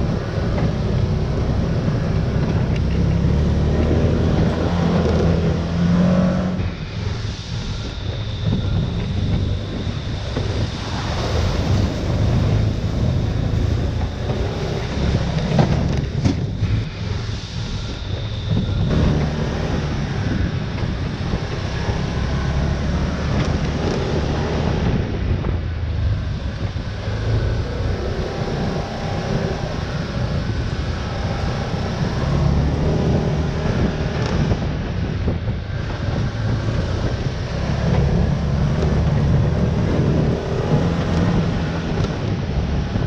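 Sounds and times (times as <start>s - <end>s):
low rumble: 0.0s - 43.0s
wind rushing over microphone: 0.0s - 43.0s.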